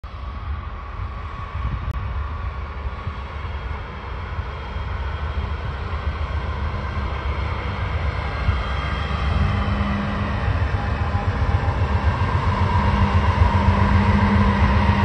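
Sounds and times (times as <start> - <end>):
diesel locomotive engine rumble: 0.0 - 15.0
wheels hissing on track: 2.7 - 15.0.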